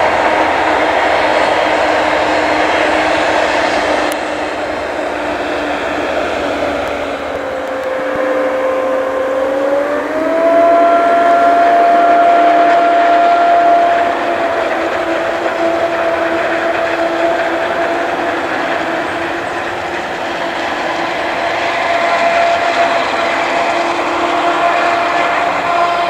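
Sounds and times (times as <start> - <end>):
forage harvester drone and whine: 0.0 - 26.0.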